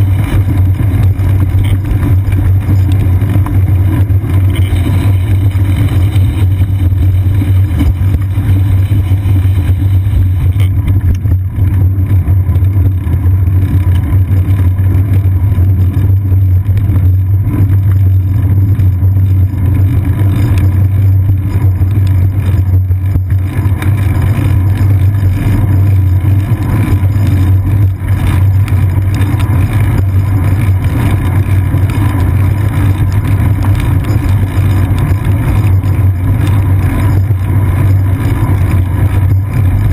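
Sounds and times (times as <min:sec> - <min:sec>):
bicycle rolling on wet pavement: 0:00.0 - 0:39.9
wind noise: 0:00.0 - 0:39.9.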